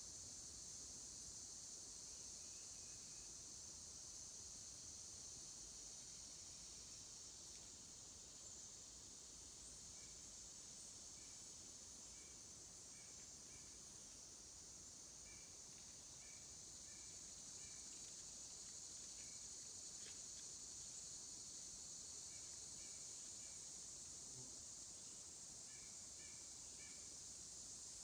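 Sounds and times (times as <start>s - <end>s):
insects droning: 0.0s - 28.0s
short insect chirps: 0.0s - 28.0s.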